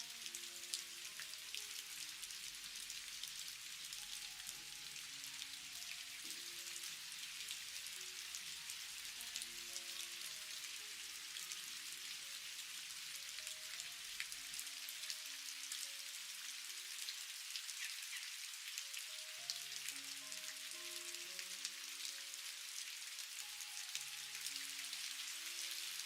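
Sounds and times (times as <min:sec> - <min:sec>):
faint soft music: 0:00.0 - 0:26.0
rain drops ticking on surface: 0:00.0 - 0:26.0.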